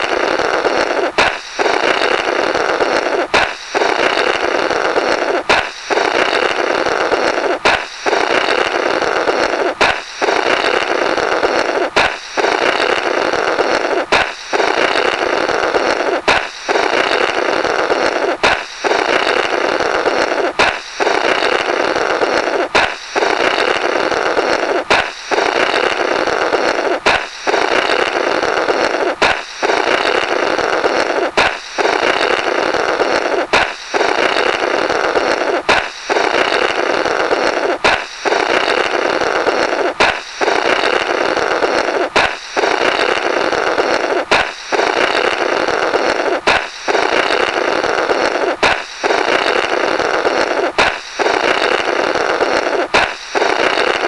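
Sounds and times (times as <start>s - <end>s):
air rasping through rubber: 0.0s - 54.0s
balloon popping: 0.0s - 54.0s.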